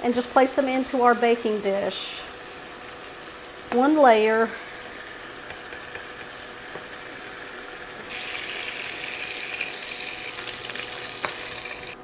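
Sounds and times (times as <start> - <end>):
butter sizzling in a skillet: 0.0 - 12.0.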